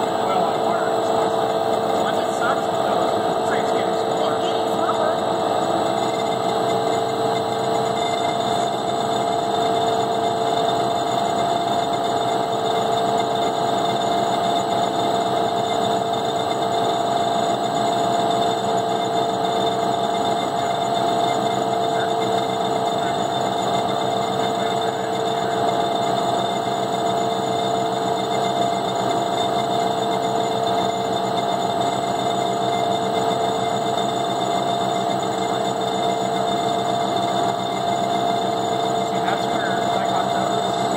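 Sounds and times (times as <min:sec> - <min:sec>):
electric mixer motor humming: 0:00.0 - 0:40.9.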